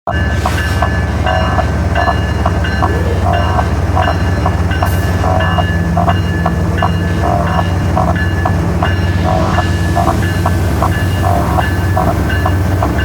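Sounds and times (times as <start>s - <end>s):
freight train passing: 0.1s - 13.0s
synth music: 0.1s - 13.0s.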